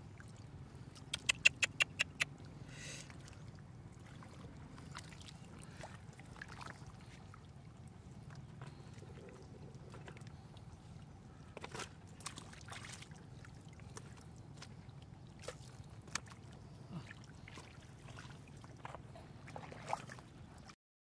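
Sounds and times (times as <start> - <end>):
water splashing and dripping: 0.1 - 9.1, 11.4 - 20.8.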